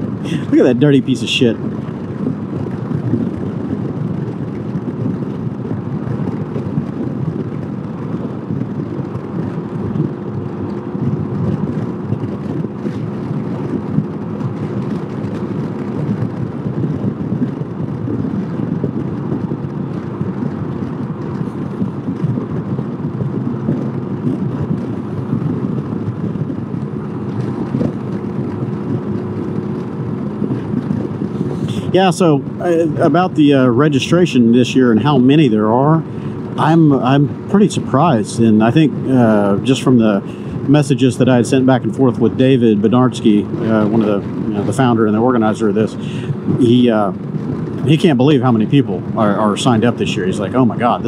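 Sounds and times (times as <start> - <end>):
scooter engine droning: 0.0 - 51.0
wind and road noise: 0.0 - 51.0.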